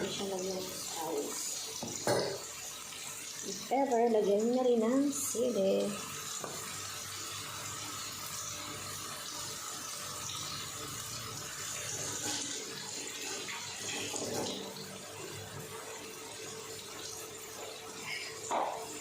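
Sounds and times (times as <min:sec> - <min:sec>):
tomato sauce sizzling in a pan: 0:00.0 - 0:15.4.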